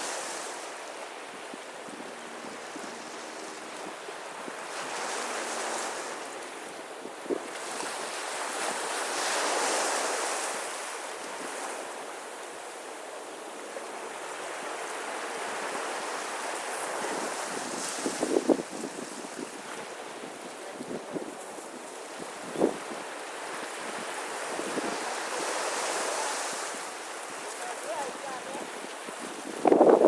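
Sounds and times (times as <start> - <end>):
sea waves breaking on beach: 0.0 - 30.0.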